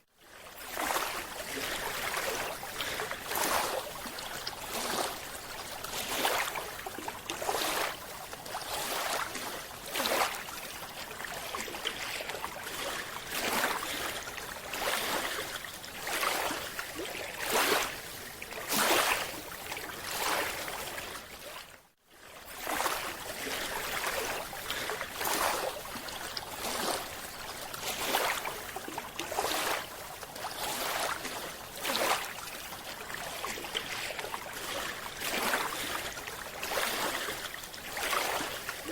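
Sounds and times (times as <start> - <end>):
water swishing in surges: 0.1 - 38.9.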